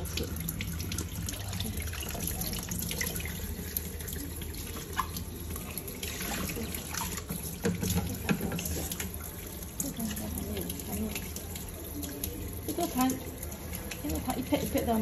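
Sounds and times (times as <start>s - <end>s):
tap water running into basin: 0.0s - 15.0s
water dripping: 0.0s - 15.0s.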